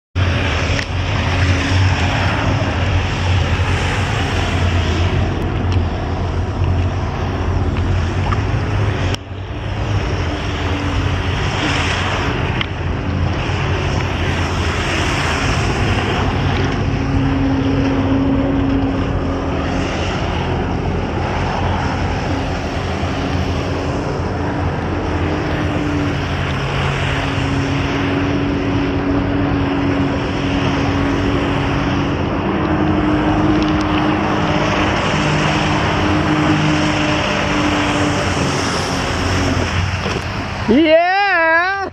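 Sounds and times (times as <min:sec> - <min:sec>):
engine running at high revs: 0:00.2 - 0:41.0
water jets spraying: 0:00.2 - 0:41.4.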